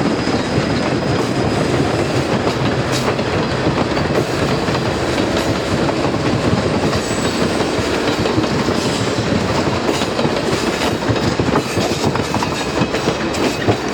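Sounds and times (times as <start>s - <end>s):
steady train rumble: 0.0s - 13.9s
train wheels clattering over rail joints: 0.0s - 13.9s.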